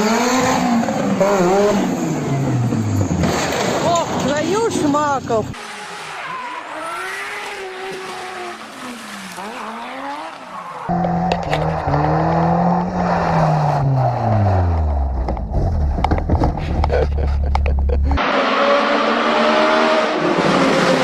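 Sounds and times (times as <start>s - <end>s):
car engine: 0.0s - 21.0s.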